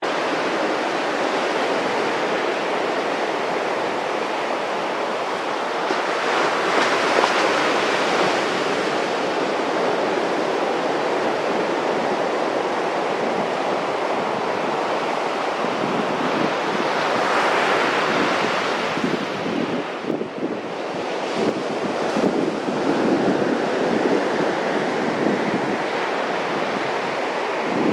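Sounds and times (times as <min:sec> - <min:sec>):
surf washing up beach: 0:00.0 - 0:27.9
waves breaking: 0:00.1 - 0:27.9.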